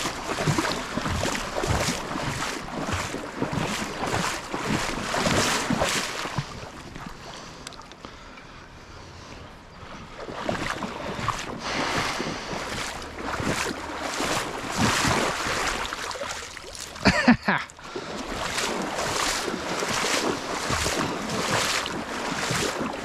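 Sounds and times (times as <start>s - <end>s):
water sloshing around legs: 0.0s - 8.0s, 9.8s - 23.0s.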